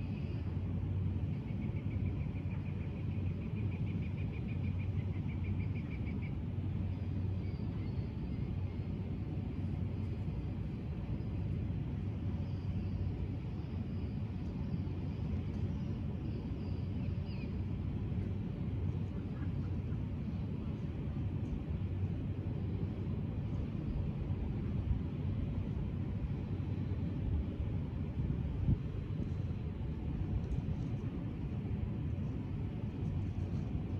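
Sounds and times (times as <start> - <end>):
low outdoor rumble: 0.0 - 33.9.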